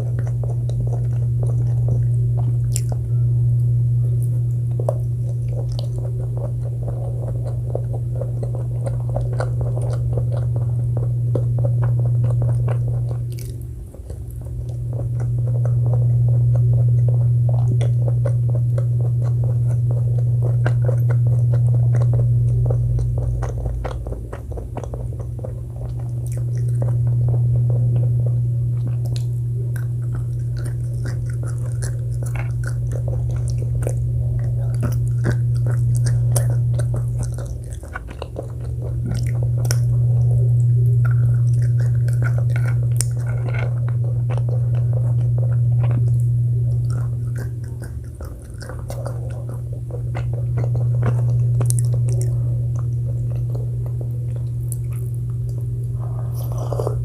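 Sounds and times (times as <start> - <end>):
crisp food chewing: 0.0 - 57.0
steady low hum: 0.0 - 57.0.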